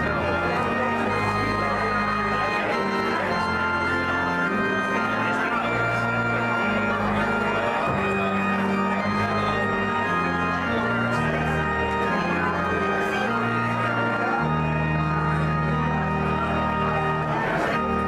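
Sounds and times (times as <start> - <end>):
organ playing held chords: 0.0 - 18.0.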